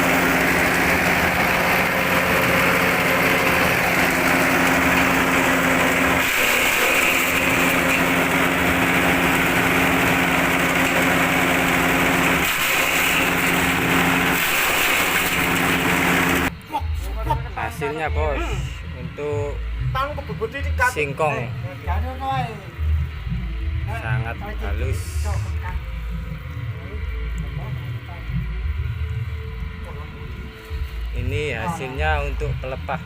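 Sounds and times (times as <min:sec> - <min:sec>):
forage chopping machine humming: 0:00.0 - 0:33.0.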